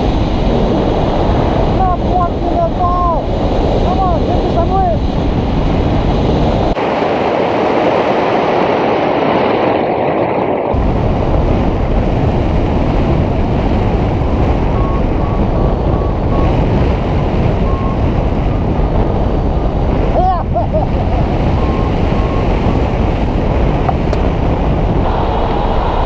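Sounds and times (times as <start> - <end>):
wind roaring over microphone: 0.0 - 26.0.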